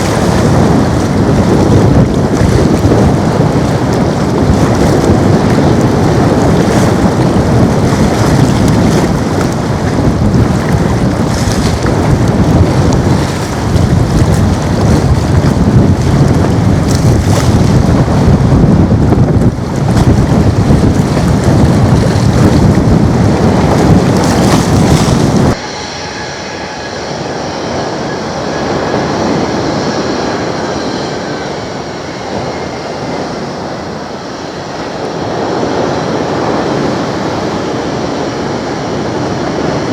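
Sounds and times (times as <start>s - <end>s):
jet engines departure roar: 0.0s - 39.9s
steady jet engine noise: 0.0s - 39.9s.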